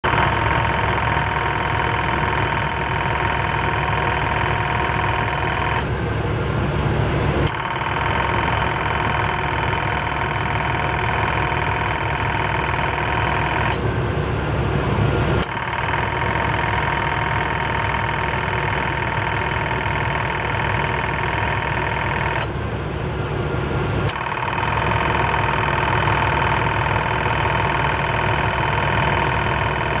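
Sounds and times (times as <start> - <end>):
compressor mechanical whine: 0.0 - 30.0
engine running: 0.0 - 30.0.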